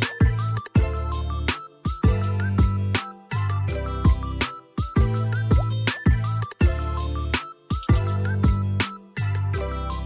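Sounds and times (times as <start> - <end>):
held bass notes: 0.0 - 4.4, 5.0 - 10.0
plucked melody: 0.0 - 10.0.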